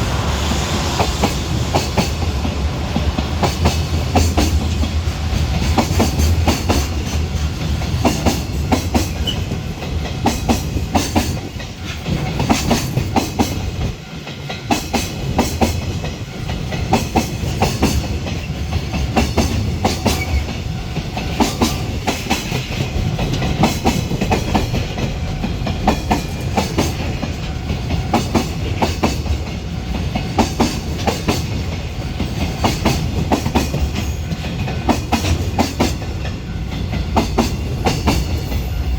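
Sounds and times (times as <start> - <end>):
freight train rumbling past: 0.0 - 38.9
wheels clicking over rail joints: 3.0 - 38.8.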